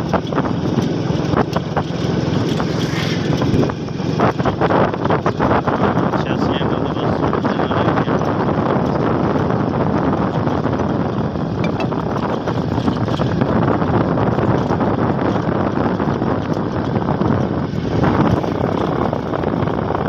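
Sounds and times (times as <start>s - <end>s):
vehicle running noise: 0.0s - 20.0s
wind buffeting microphone: 0.0s - 20.0s.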